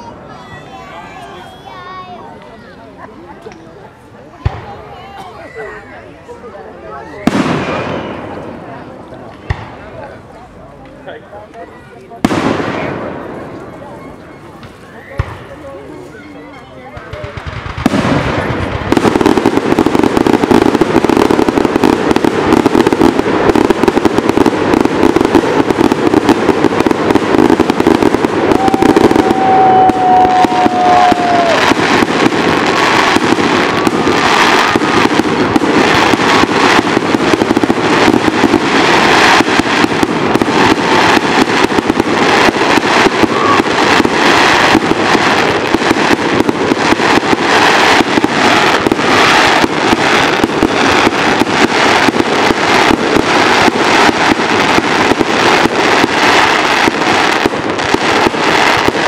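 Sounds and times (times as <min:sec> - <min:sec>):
fireworks launching and bursting: 0:00.0 - 0:59.0.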